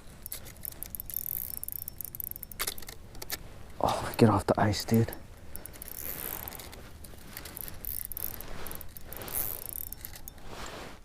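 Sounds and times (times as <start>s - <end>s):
fishing reel clicking rattle: 0.0s - 10.5s
rustling handling noise: 0.0s - 11.0s.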